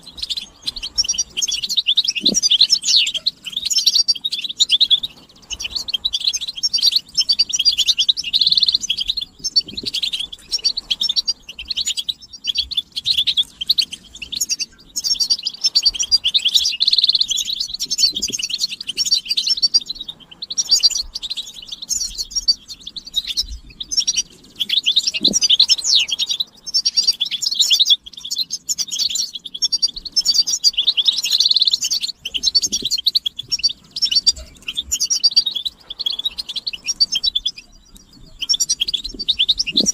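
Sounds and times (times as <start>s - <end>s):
finches twittering and singing: 0.0s - 39.9s.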